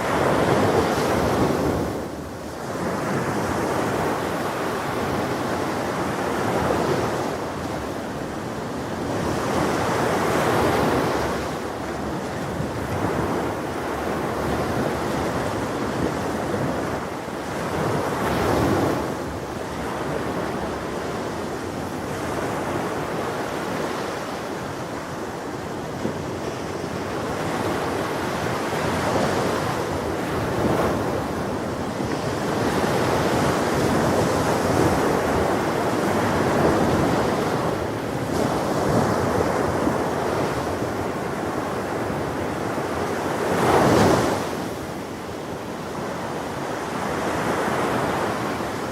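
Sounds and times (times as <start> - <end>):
ocean waves breaking on shore: 0.0 - 48.9.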